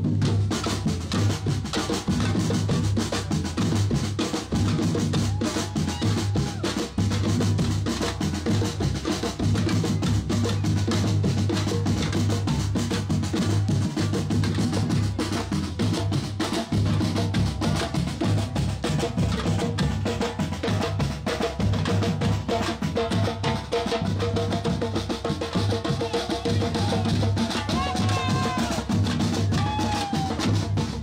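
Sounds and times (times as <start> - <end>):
bass drums: 0.0 - 31.0.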